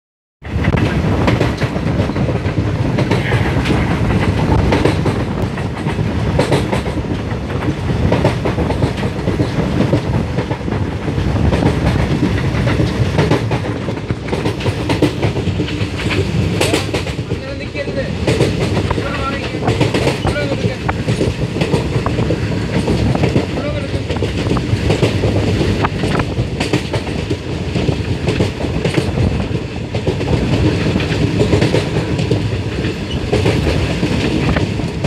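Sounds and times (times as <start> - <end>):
train wheels rumbling on rails: 0.4 - 35.0
wheels clacking over rail joints: 0.4 - 35.0.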